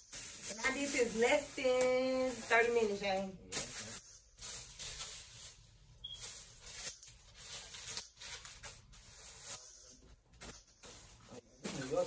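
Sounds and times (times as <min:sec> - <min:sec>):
bags and packaging rustling: 0:00.0 - 0:12.0.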